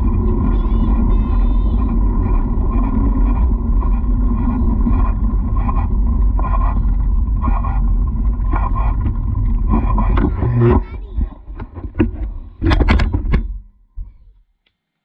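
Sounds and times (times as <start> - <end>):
wind rumble on microphone: 0.0 - 14.2.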